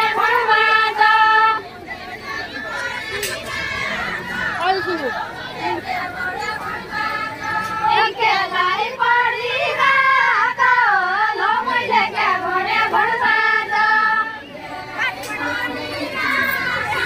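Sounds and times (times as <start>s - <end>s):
woman singing unaccompanied: 0.0s - 3.8s, 4.4s - 17.0s.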